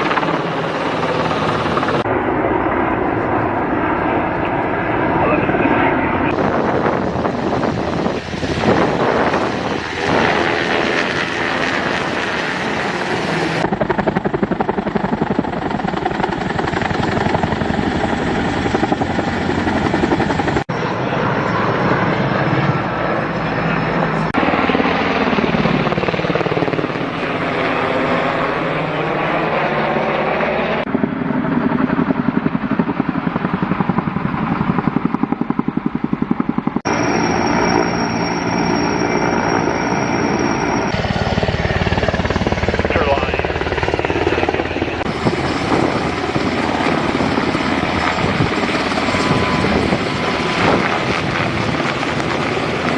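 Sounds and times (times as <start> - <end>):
helicopter rotor blades chopping: 0.0 - 52.9.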